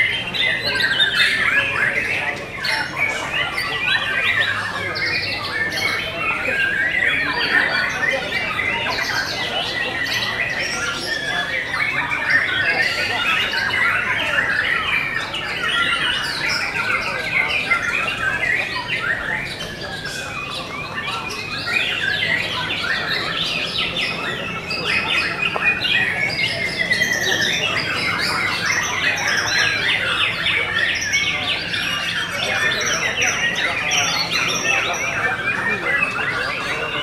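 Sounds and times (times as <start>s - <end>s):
birds singing whistles and trills: 0.0s - 37.0s
fast rattling bird trill: 0.0s - 37.0s.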